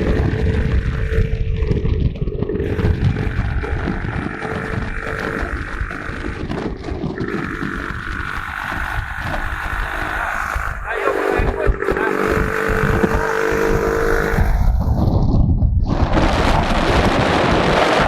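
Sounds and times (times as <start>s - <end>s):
steady higher tone: 0.0s - 14.8s
motorcycle engine running: 0.0s - 15.3s
wind buffeting microphone: 0.0s - 18.0s.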